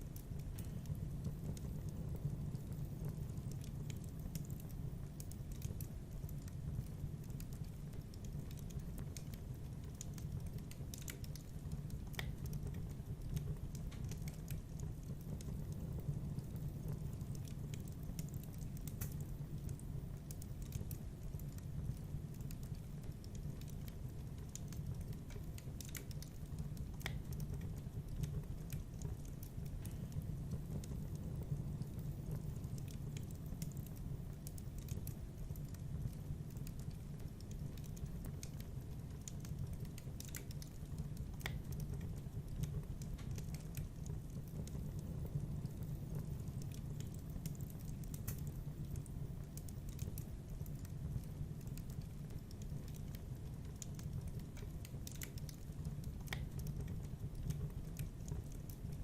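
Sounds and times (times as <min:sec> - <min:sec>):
low rumble of burning fire: 0:00.0 - 0:59.0
wood fire crackling and popping: 0:00.0 - 0:59.0.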